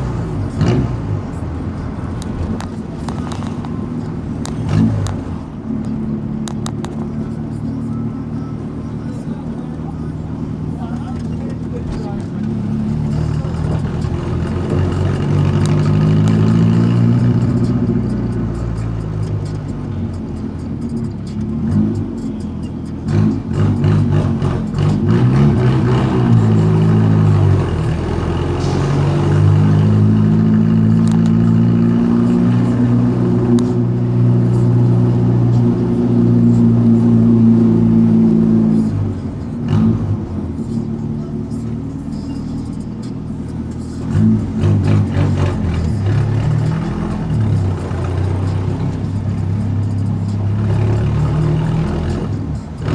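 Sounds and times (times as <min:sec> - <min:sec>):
car engine rumbling through exhaust: 0:00.0 - 0:52.9.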